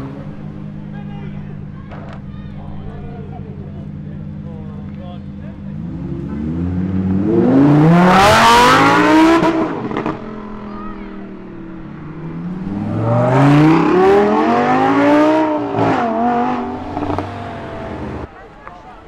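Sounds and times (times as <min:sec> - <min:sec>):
car engines accelerating hard: 0:00.0 - 0:18.3.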